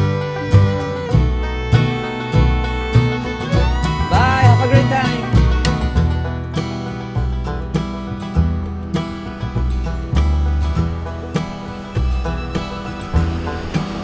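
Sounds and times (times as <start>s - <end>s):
plucked guitar: 0.0s - 14.0s
upbeat bluegrass tune: 0.0s - 14.0s.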